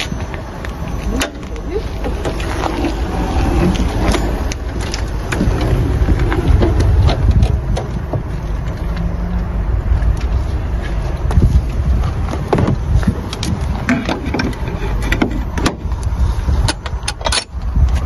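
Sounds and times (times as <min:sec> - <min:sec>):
wheelchair rolling low rumble: 0:00.0 - 0:18.0.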